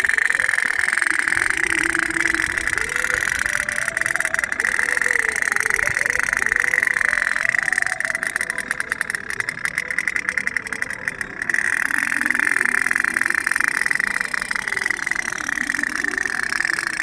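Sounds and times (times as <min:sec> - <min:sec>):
toy steam boat putt-putt: 0:00.0 - 0:17.0.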